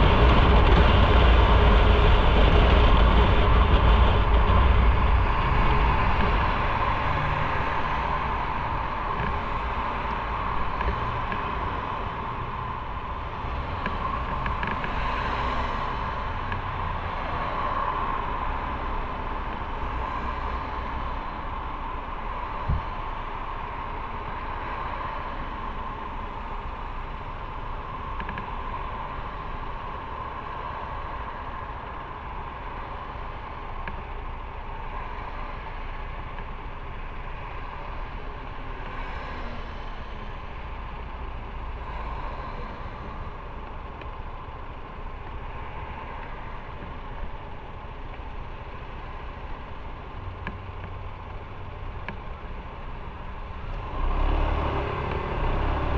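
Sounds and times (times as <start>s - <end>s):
motorcycle engine and wind rumble: 0.0s - 55.9s.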